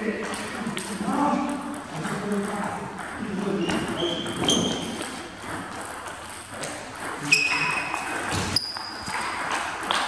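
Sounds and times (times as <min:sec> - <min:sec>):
table tennis balls clicking: 0:00.0 - 0:10.0.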